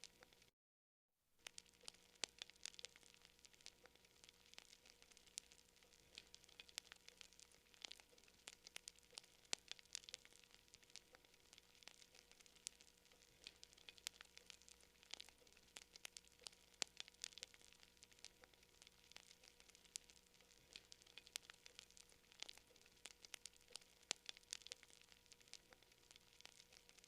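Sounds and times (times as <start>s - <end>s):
campfire crackling: 1.4s - 27.0s
faint hiss: 1.4s - 27.0s.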